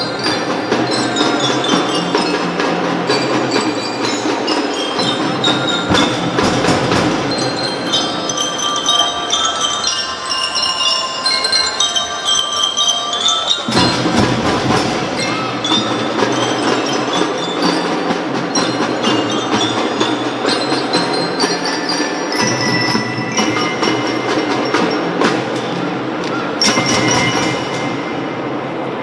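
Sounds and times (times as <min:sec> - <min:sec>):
drum strokes: 0:00.0 - 0:10.8, 0:13.5 - 0:29.0
bell lyras playing melody: 0:00.0 - 0:29.0.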